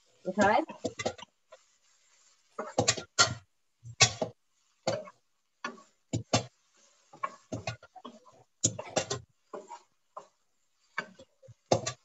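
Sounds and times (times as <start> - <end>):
wooden spoon knocking on frying pan: 0.6 - 1.3, 2.6 - 12.0.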